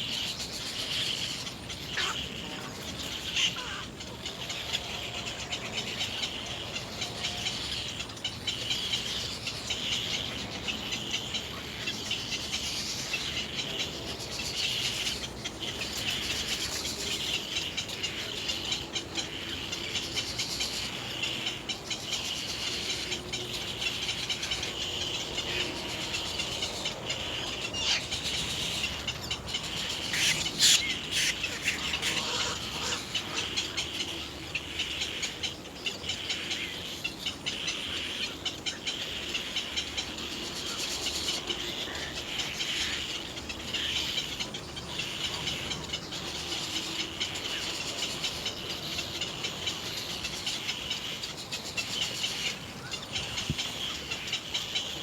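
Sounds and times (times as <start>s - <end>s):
bird calls: 0.0s - 55.0s.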